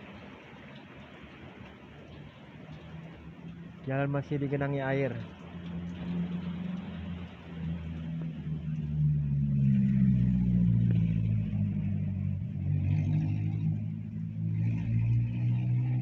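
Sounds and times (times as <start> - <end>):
vehicle engine running: 2.2 - 16.0.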